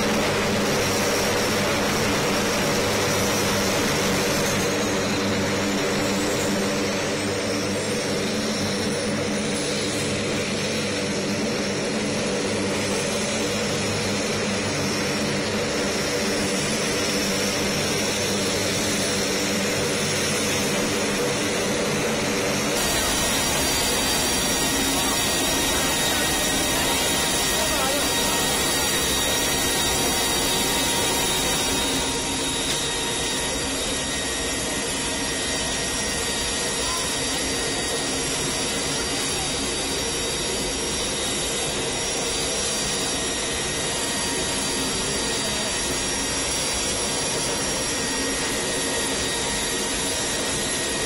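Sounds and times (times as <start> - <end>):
high engine whine: 0.0 - 51.0
turboprop engine drone: 0.0 - 51.0.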